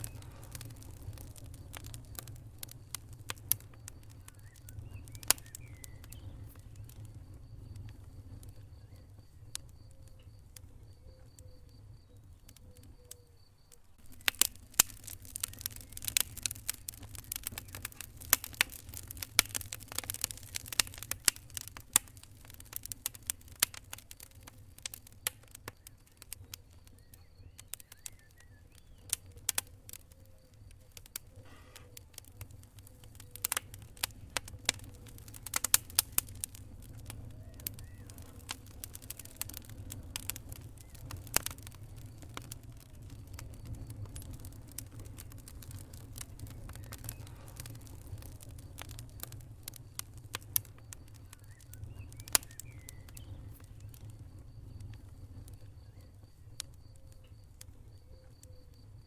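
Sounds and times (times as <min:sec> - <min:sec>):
low rumble of flames: 0:00.0 - 0:59.0
wood fire crackling and popping: 0:00.0 - 0:59.0.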